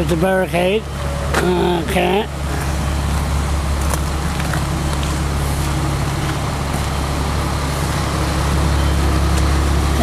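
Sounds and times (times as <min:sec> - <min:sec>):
road noise rush: 0:00.0 - 0:10.0
vehicle engine hum: 0:00.0 - 0:10.0.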